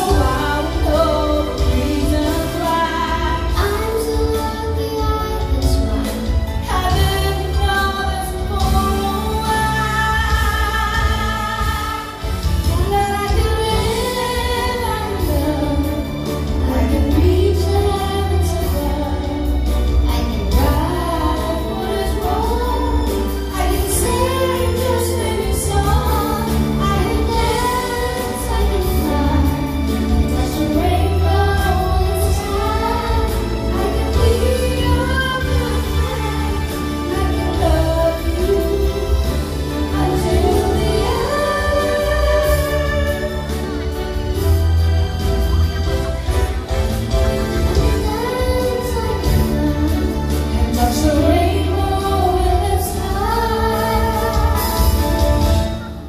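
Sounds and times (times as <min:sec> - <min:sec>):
instrumental accompaniment with bass: 0:00.0 - 0:56.0
woman singing: 0:00.0 - 0:56.0.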